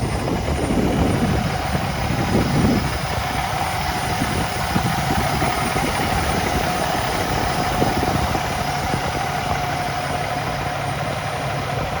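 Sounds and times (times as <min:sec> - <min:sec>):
constant engine whine: 0:00.0 - 0:12.0
diesel engine idling: 0:00.0 - 0:12.0.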